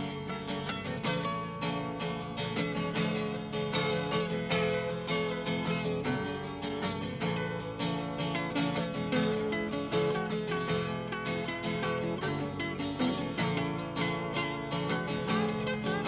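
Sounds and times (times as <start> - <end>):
fingerpicked acoustic guitars: 0.0 - 16.0.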